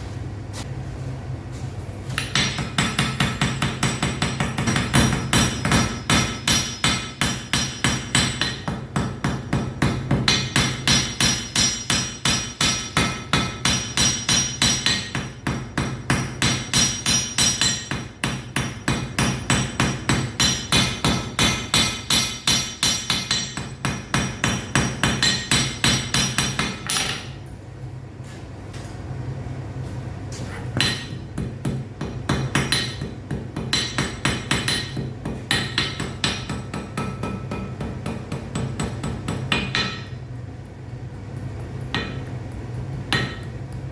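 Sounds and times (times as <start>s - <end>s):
hammer striking metal on anvil: 2.2s - 27.4s, 30.8s - 40.2s, 41.8s - 43.6s.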